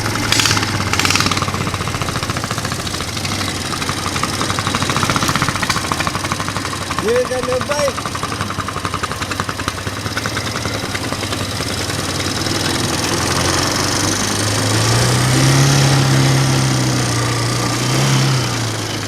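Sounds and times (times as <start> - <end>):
single-cylinder engine revving: 0.0 - 19.0.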